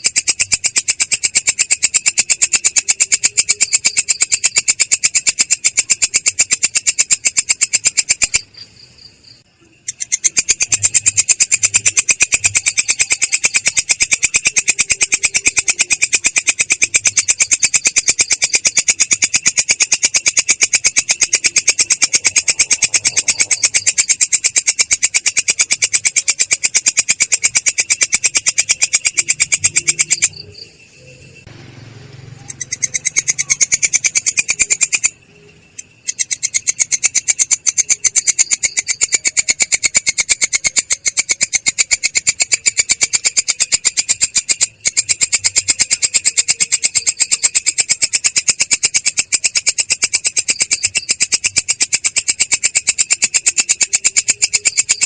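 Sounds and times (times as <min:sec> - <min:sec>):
insect pulsing trill: 0:00.0 - 0:55.0.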